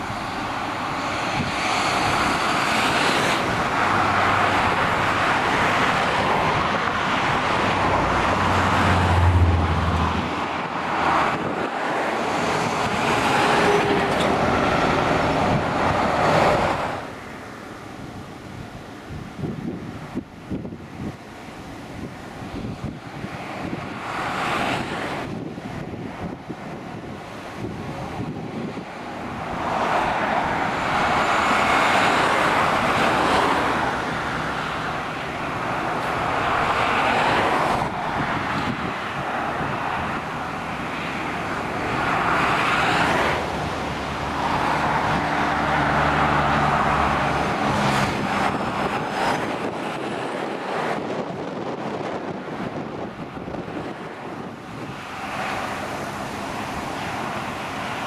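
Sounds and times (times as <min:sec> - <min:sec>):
traffic tyre noise: 0:00.0 - 0:58.0
truck engine drone: 0:00.0 - 0:58.0.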